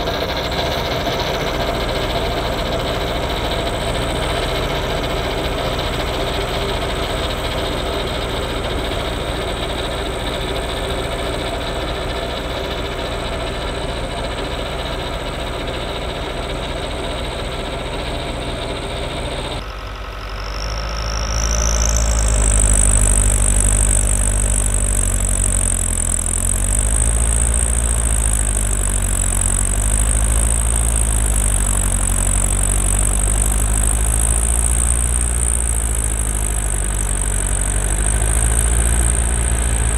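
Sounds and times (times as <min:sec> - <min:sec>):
high whine: 0:00.0 - 0:39.9
tractor diesel engine running: 0:00.0 - 0:39.9.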